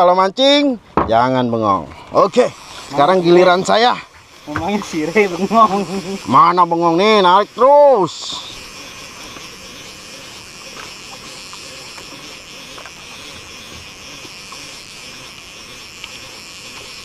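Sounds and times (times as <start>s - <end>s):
fishing reel whirring: 2.1s - 17.0s
faint reel ticks: 2.3s - 17.0s.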